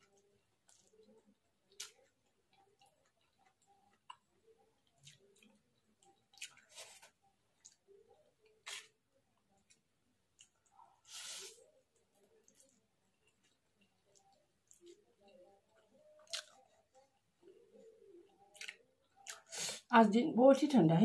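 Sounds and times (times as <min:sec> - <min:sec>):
quiet chewing: 0:00.0 - 0:19.9.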